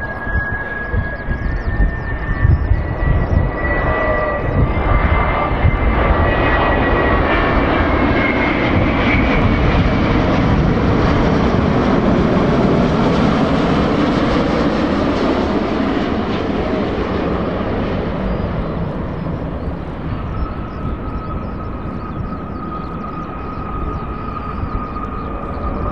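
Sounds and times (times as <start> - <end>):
high jet whine: 0.0 - 25.9
jet airliner roar: 0.0 - 25.9.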